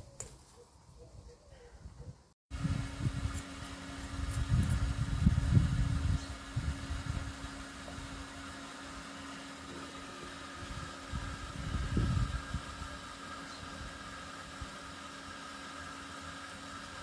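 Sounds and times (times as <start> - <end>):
steady low hum: 2.5 - 17.0.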